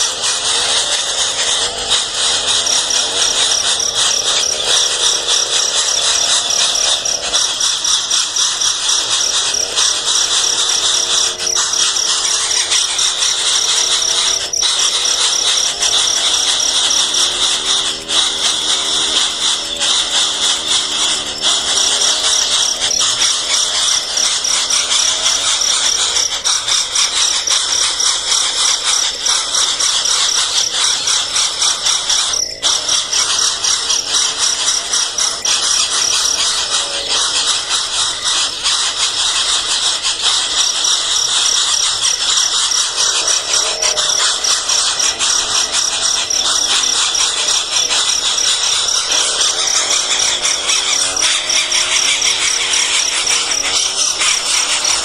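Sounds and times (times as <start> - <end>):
nestlings shrill chirping: 0.1 - 55.0.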